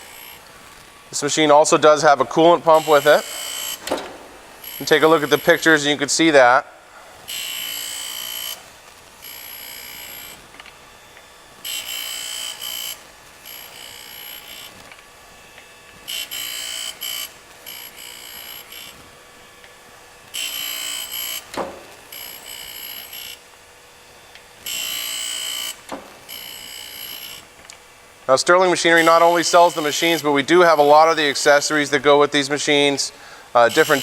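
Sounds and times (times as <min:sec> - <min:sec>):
grinder wheel grinding hiss: 0:00.0 - 0:08.6, 0:09.2 - 0:10.8, 0:11.6 - 0:23.4, 0:24.0 - 0:34.0.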